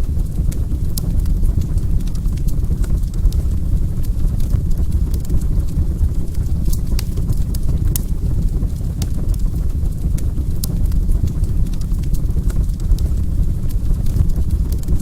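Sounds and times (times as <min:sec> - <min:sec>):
fire crackling and rumbling: 0:00.0 - 0:15.0.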